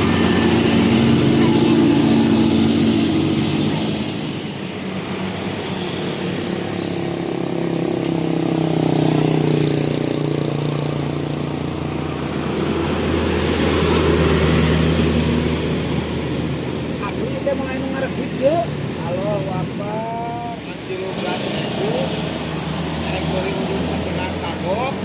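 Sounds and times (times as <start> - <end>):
heavy vehicle engine running: 0.0 - 25.0
road traffic: 0.0 - 25.0.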